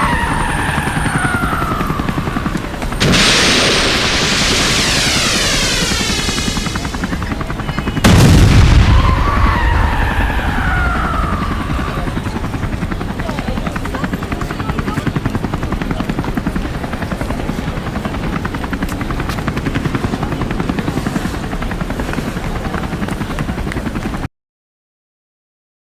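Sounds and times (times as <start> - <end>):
helicopter rotor chopping: 0.0 - 24.3.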